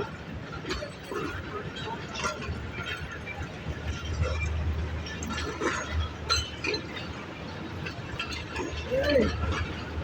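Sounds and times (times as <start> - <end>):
low train rumble: 0.0 - 10.0.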